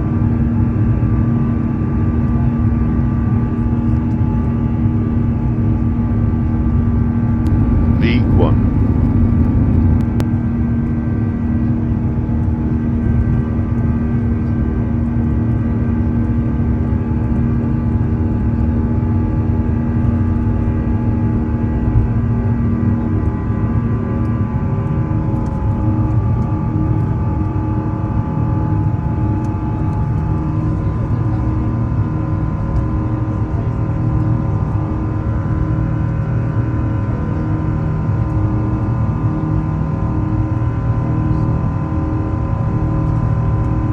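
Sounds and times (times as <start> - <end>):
jet engine rumble: 0.0 - 43.9.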